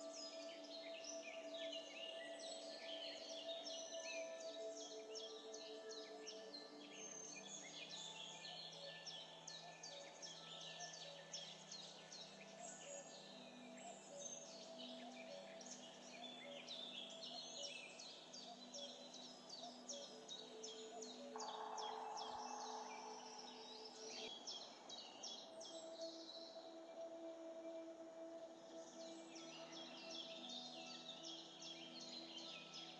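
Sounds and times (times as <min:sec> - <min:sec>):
soft background music: 0:00.0 - 0:32.9.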